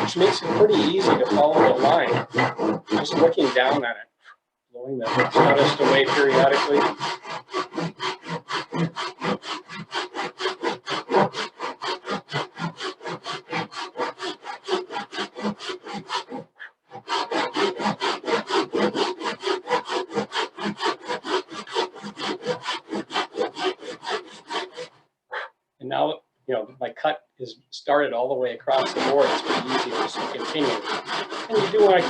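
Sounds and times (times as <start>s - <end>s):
pull saw cutting wood: 0.0s - 4.0s, 4.8s - 25.0s, 28.2s - 32.0s.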